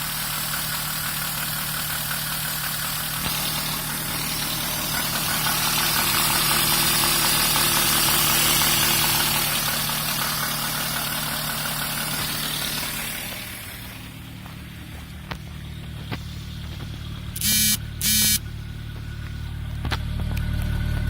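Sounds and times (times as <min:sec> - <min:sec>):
car engine idling irregularly: 0:00.0 - 0:21.0.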